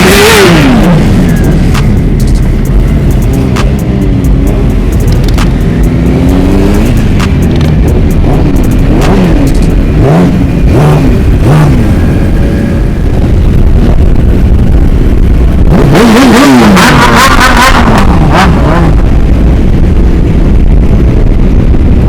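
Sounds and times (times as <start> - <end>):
low rumble of traffic: 0.0 - 22.0
motorcycle engines revving: 0.0 - 22.0.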